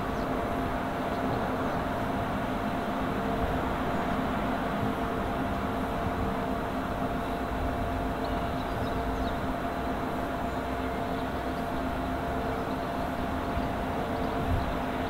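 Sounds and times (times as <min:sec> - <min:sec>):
faint steady whine: 0:00.0 - 0:15.0
steam locomotive rumble and hiss: 0:00.0 - 0:15.0.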